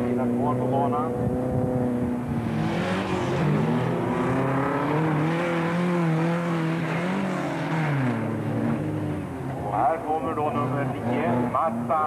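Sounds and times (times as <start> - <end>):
race car engine at full throttle: 0.0 - 12.0.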